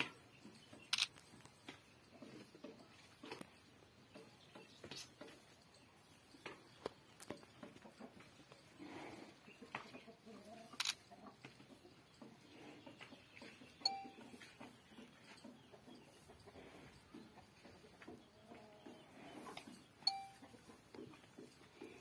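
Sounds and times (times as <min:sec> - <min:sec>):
faint livestock shed background: 0:00.0 - 0:22.0.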